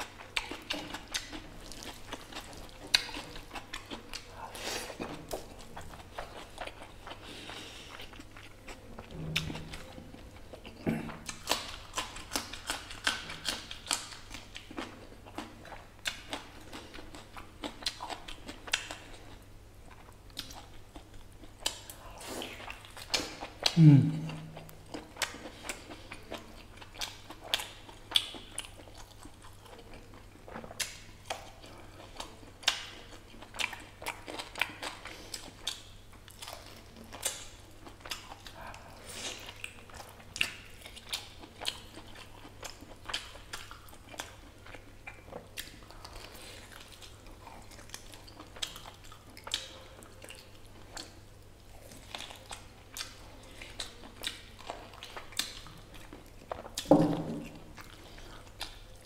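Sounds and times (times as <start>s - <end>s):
wet chewing and lip-smacking: 0.0s - 59.0s.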